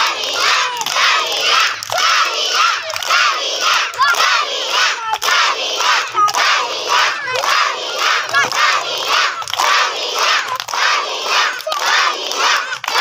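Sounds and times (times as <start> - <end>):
children chanting and cheering: 0.0 - 13.0.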